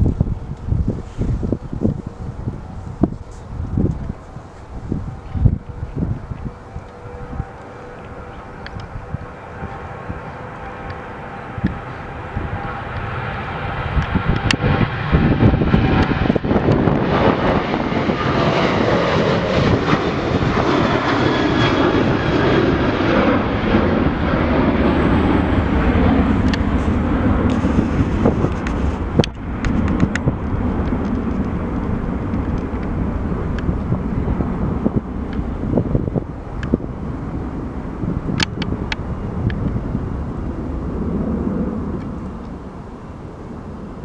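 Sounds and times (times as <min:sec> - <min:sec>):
faint engine whine: 0:00.0 - 0:44.0
jet engines rushing: 0:00.0 - 0:44.0.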